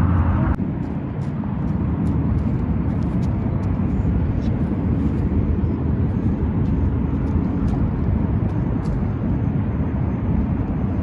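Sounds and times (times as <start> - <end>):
steady low rumbling: 0.0 - 11.0.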